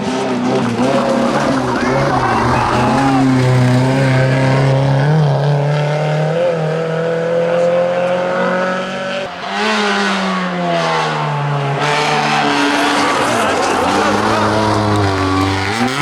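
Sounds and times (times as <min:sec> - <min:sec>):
rally car engine revving high: 0:00.0 - 0:16.0.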